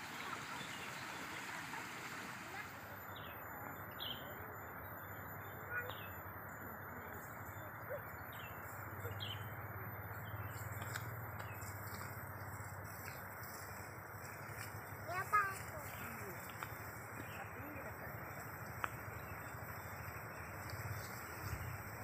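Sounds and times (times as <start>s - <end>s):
bird chirping: 0.0s - 22.0s
steady outdoor hiss: 0.0s - 22.0s.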